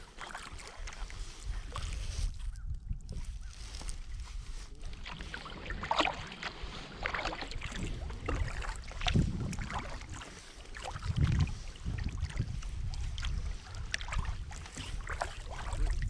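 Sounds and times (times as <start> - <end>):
paddle splashing water: 0.0 - 16.0.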